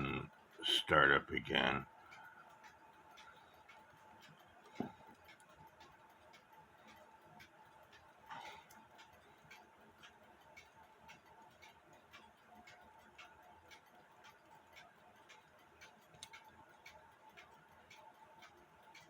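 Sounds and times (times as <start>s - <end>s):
alarm clock ticking: 0.0s - 19.0s.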